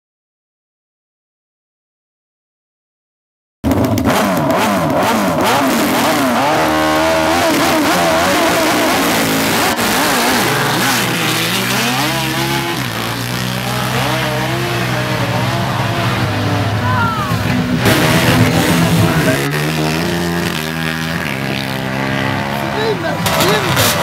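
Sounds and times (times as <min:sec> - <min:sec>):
atv engines revving: 0:03.7 - 0:24.0.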